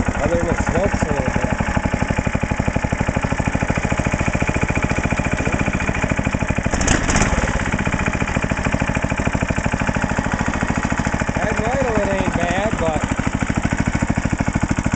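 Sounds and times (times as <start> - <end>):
garden tractor engine running: 0.0 - 14.9.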